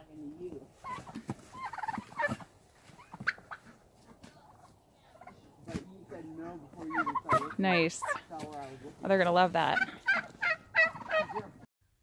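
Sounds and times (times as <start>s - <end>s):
turkeys calling: 0.4s - 11.6s.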